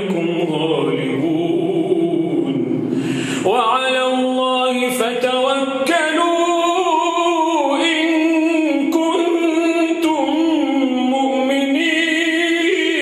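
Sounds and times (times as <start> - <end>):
man chanting recitation: 0.0 - 2.8, 3.4 - 13.0.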